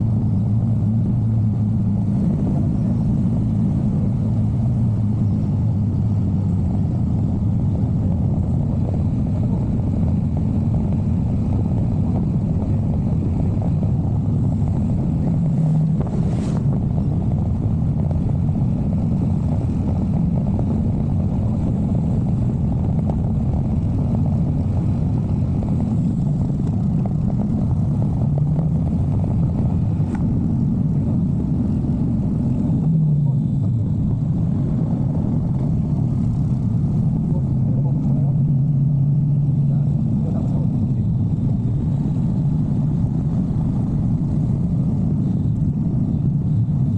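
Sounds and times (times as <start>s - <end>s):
low rumble of wind: 0.0s - 46.9s
motorcycle engine running: 0.0s - 46.9s
road noise: 0.0s - 46.9s.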